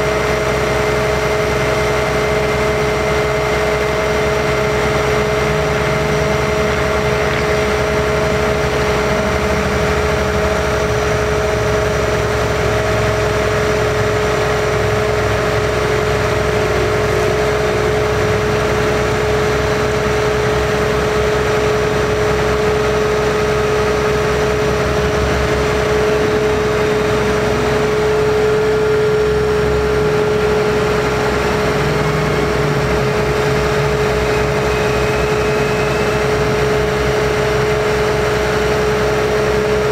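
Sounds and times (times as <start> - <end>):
diesel truck engine running: 0.0 - 39.9
hydraulic pump whine: 0.0 - 39.9.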